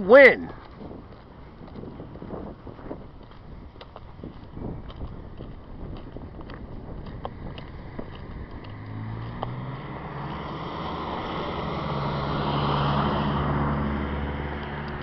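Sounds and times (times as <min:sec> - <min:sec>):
tyre noise: 0:00.0 - 0:12.1
vehicle engine drone: 0:00.5 - 0:15.0.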